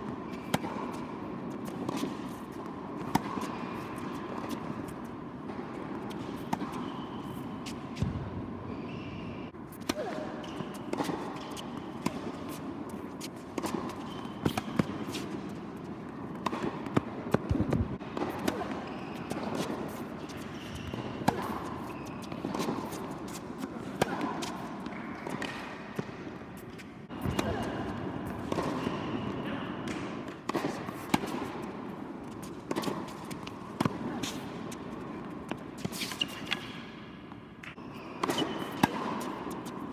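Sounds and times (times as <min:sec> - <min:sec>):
tennis ball hits and bounces: 0:00.0 - 0:08.5, 0:09.7 - 0:39.9.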